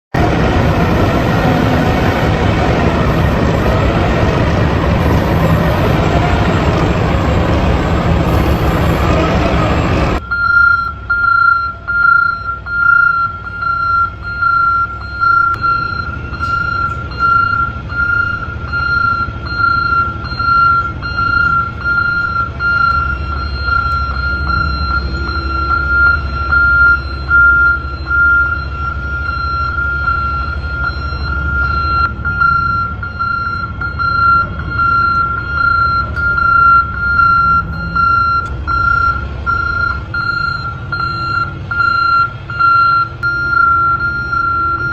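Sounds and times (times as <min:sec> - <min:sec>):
truck engine drone: 0:00.0 - 0:44.9
reversing alarm beeping: 0:00.3 - 0:44.9.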